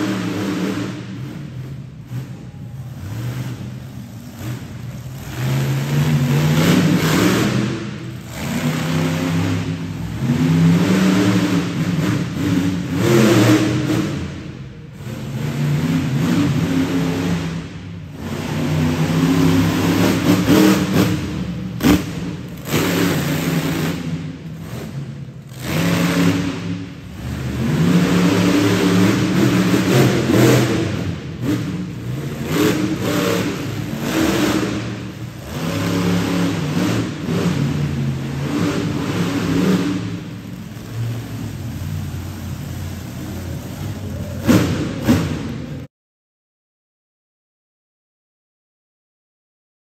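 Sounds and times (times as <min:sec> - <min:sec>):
truck engine revving: 0:00.0 - 0:45.9.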